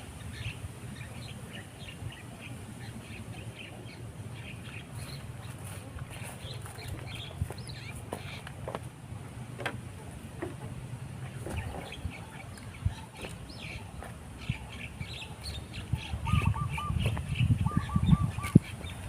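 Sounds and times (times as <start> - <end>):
small birds chirping: 0.2 - 8.9, 10.8 - 19.0.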